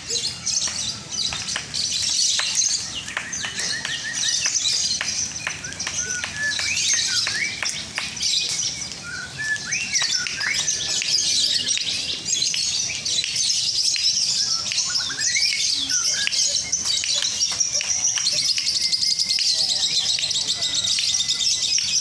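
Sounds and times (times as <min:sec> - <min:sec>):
lovebirds chattering: 0:00.0 - 0:22.0.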